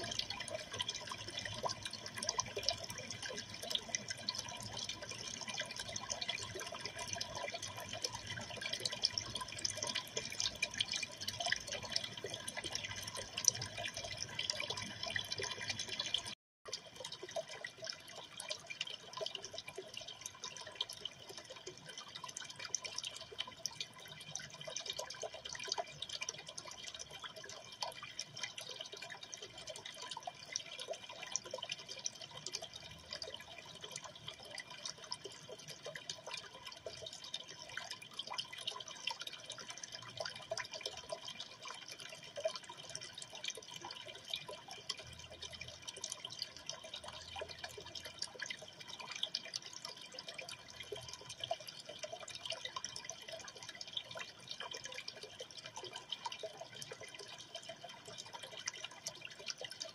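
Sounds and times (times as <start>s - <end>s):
aquarium water trickling: 0.0s - 59.9s.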